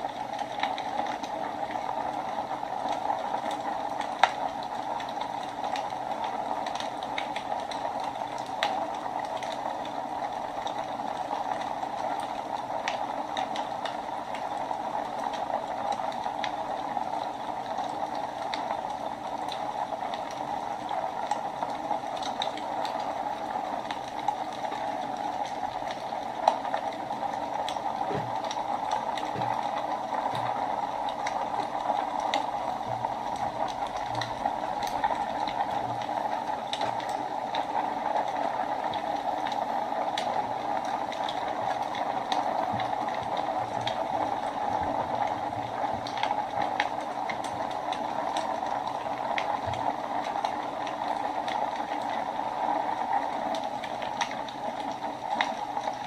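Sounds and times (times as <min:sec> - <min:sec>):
fire burning in fireplace: 0:00.0 - 0:56.0
fire crackles and pops: 0:00.0 - 0:56.0.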